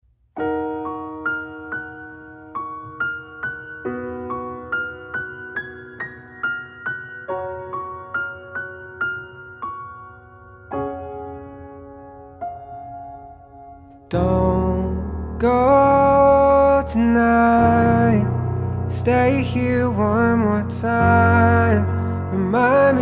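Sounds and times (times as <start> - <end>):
gentle piano melody over chords: 0.1 - 23.0.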